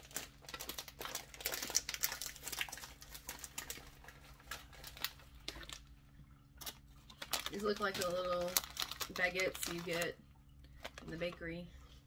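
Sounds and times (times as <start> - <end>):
plastic wrapper crinkling: 0.0 - 11.5.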